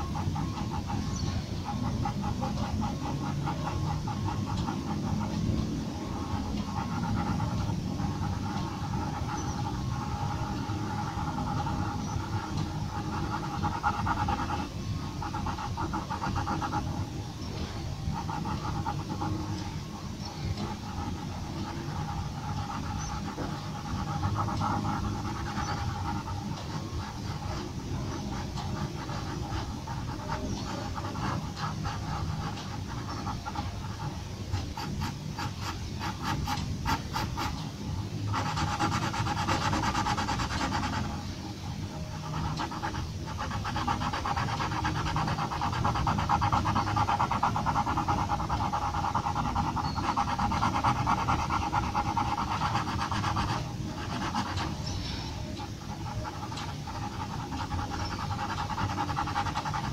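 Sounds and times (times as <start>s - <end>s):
pencil scratching on paper: 0.0s - 59.9s.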